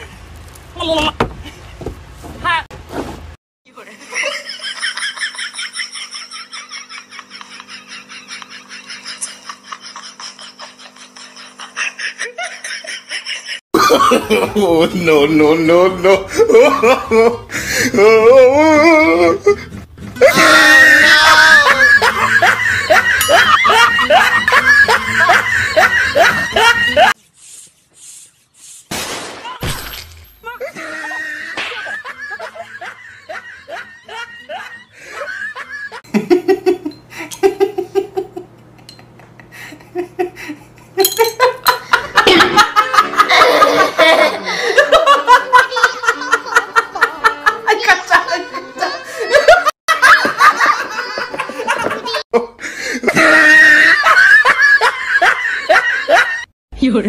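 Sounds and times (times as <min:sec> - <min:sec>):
person laughing: 0:04.0 - 0:14.9, 0:15.7 - 0:27.2, 0:30.4 - 0:56.5.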